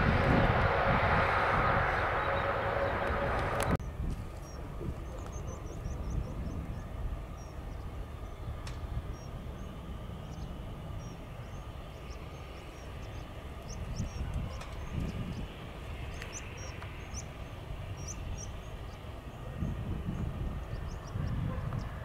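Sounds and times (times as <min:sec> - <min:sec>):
distant jet engines rumbling: 0:00.0 - 0:22.0
small birds chirping: 0:03.8 - 0:22.0.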